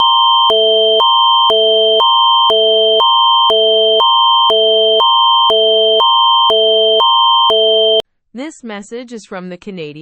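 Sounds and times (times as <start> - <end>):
electronic emergency alert warble: 0.0 - 8.0.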